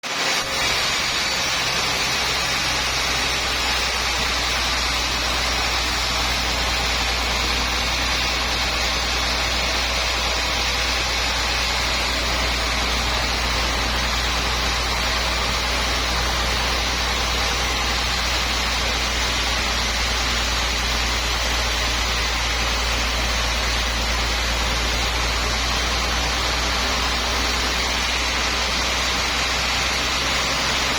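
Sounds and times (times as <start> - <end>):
sawmill machinery drone: 0.0 - 30.9.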